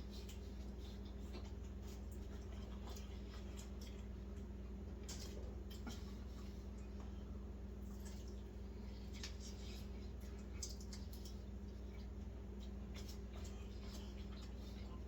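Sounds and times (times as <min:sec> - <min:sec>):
low steady hum: 0:00.0 - 0:15.0
man chewing wet mouth sounds: 0:00.0 - 0:15.0.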